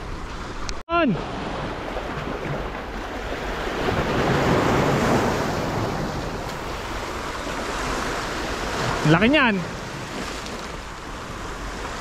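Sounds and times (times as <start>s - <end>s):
sea surf washing over rocks: 0.1s - 12.0s.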